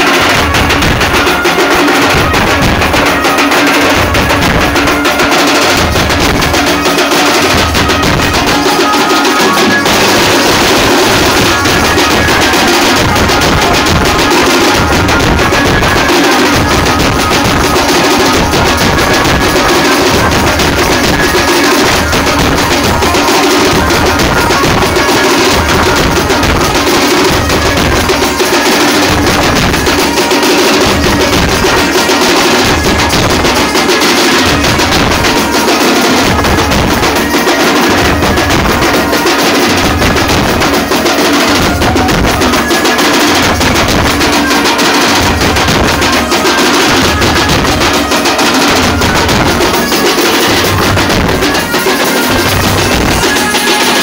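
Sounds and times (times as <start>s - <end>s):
bass drum beats: 0.0s - 30.0s, 30.8s - 33.8s, 34.4s - 37.2s, 37.9s - 42.7s, 43.3s - 44.4s, 45.1s - 46.2s, 46.8s - 47.9s, 48.7s - 53.5s
snare drum rolls: 0.0s - 54.0s.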